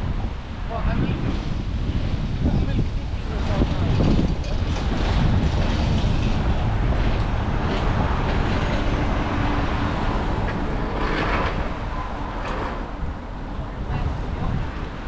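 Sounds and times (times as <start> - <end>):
traffic noise: 0.0 - 15.0
wind buffeting microphone: 0.0 - 15.0.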